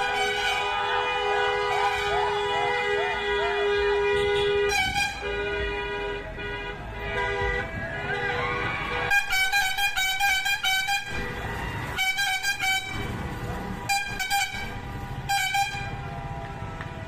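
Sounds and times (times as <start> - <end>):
musical truck horn: 0.0 - 16.8
truck engine rumble: 0.0 - 17.0.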